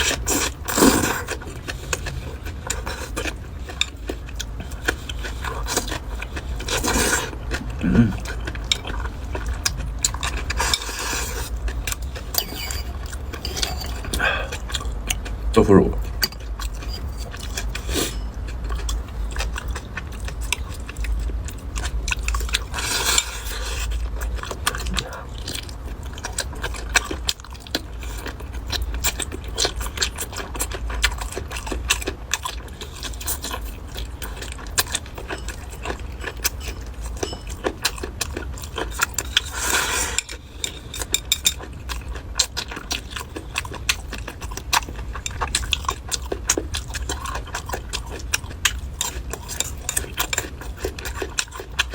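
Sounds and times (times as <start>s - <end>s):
chewing with small clicks: 0.0s - 51.9s.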